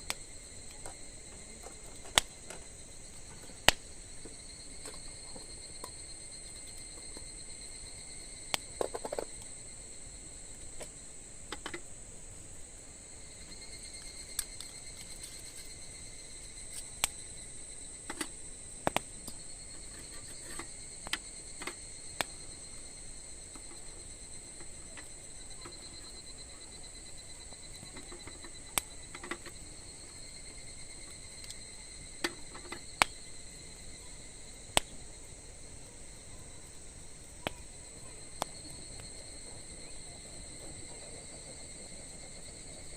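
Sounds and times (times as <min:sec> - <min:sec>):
wood fire crackling and popping: 0:00.0 - 0:11.9, 0:13.1 - 0:42.9
insects chirring: 0:00.0 - 0:42.9.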